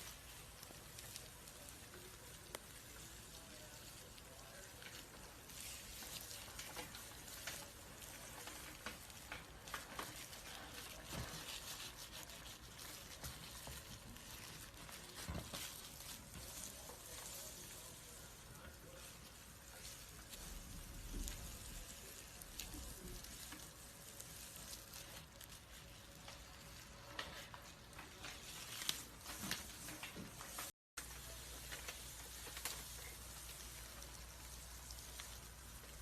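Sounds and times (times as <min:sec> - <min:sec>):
snake skin crinkling and crackling: 0:00.0 - 0:36.0.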